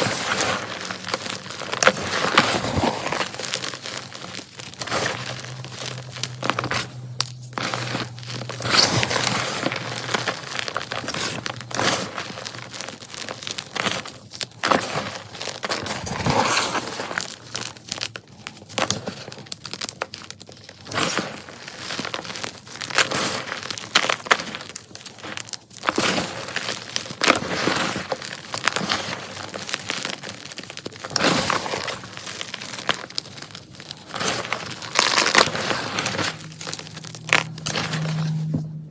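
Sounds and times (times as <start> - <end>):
chalk blocks crunching and crumbling: 0.0 - 38.7.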